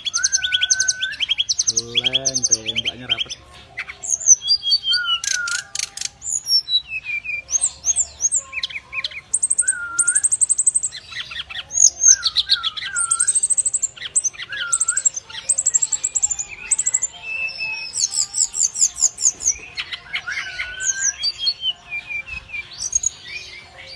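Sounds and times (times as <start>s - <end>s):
bird singing trills and whistles: 0.0s - 23.9s.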